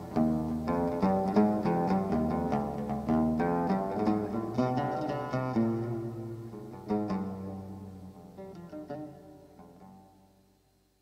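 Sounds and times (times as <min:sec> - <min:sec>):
plucked string melody: 0:00.0 - 0:10.3.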